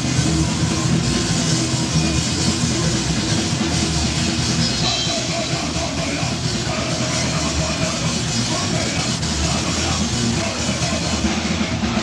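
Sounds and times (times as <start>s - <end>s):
heavy metal band playing: 0.0s - 12.0s.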